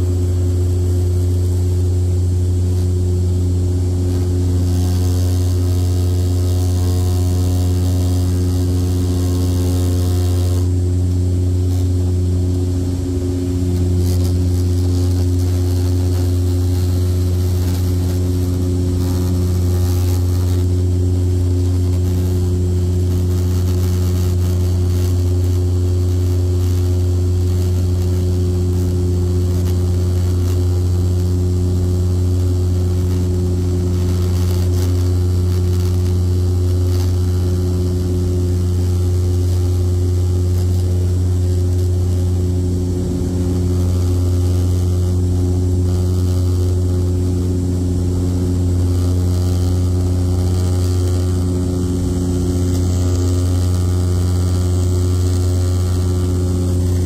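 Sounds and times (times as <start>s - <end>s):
propeller drone in cabin: 0.0s - 57.0s.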